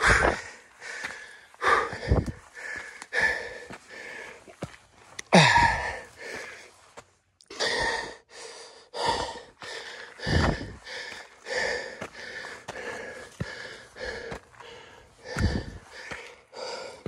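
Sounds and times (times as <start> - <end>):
heavy breathing: 0.0 - 17.0.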